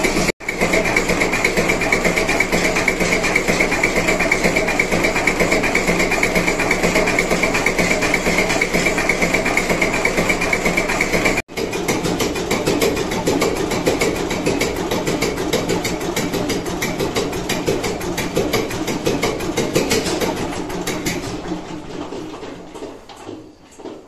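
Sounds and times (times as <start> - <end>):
diesel engine running: 0.0 - 21.7.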